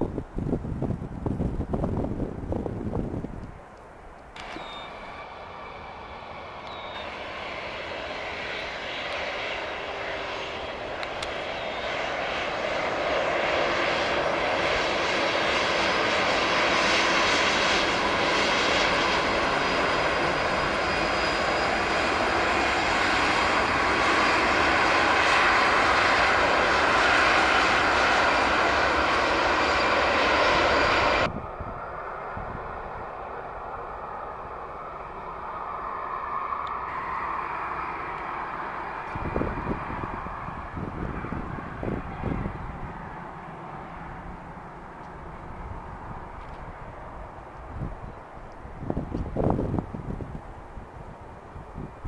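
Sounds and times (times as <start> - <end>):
jet engines taxiing: 0.0 - 52.0.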